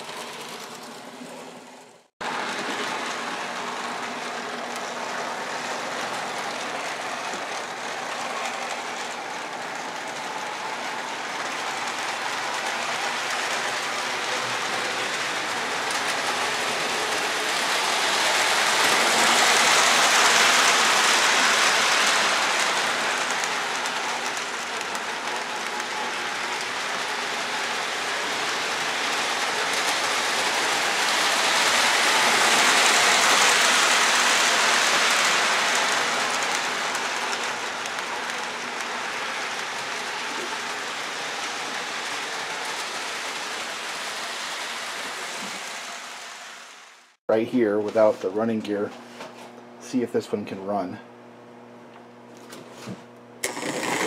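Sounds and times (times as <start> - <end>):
model train whirring and rattling: 0.0 - 47.2, 53.4 - 54.0.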